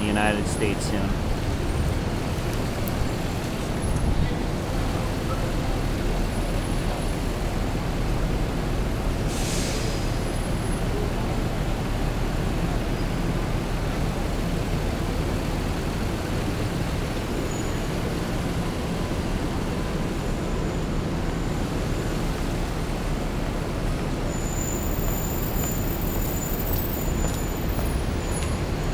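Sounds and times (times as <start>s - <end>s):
city street traffic: 0.0s - 28.9s.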